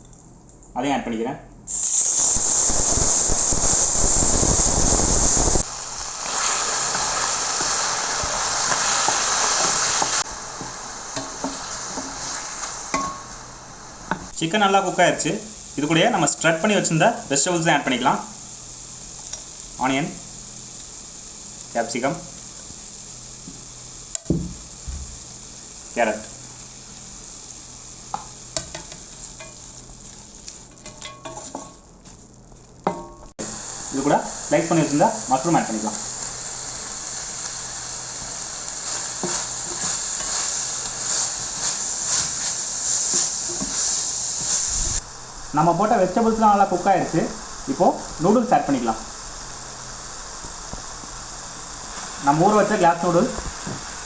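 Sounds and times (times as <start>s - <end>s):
chicken sizzling in hot oil: 1.7s - 54.0s.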